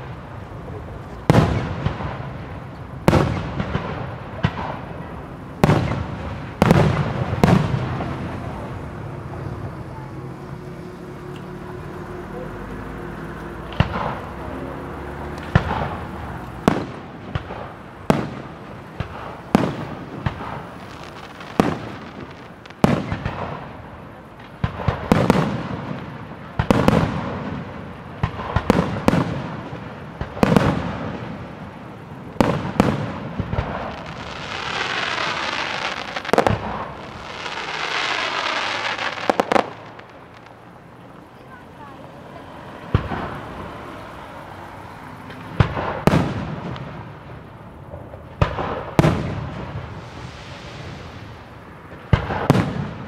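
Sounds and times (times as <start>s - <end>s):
dense firework crackling: 0.0s - 53.0s.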